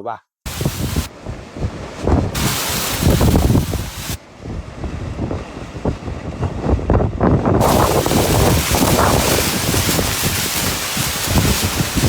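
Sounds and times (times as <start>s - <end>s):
gusty wind on microphone: 0.5s - 12.0s.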